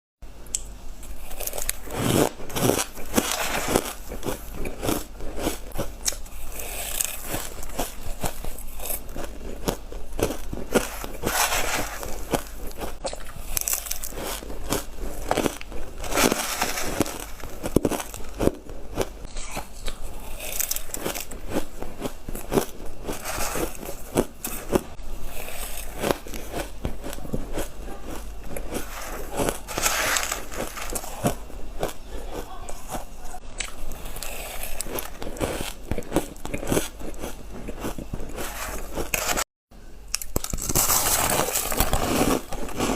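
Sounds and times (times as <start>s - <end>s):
person crunching ice: 1.2s - 32.5s, 33.6s - 39.5s, 40.2s - 42.9s.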